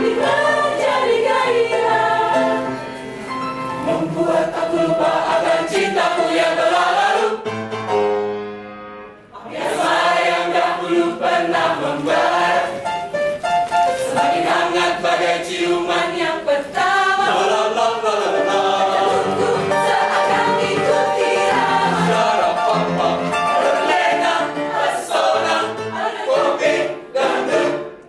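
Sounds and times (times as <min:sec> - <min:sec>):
mixed choir singing: 0:00.0 - 0:03.0, 0:03.8 - 0:07.5, 0:09.3 - 0:13.0, 0:14.0 - 0:28.0.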